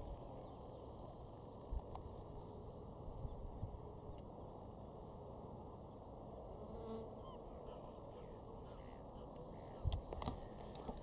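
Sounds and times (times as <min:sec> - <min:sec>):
insects buzzing faintly: 0:00.0 - 0:11.0.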